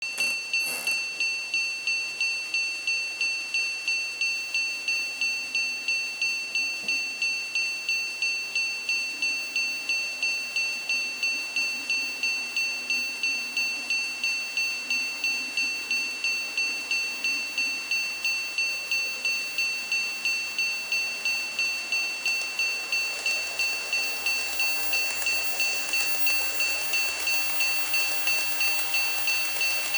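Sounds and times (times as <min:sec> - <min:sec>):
level crossing bell ringing: 0:00.0 - 0:29.9.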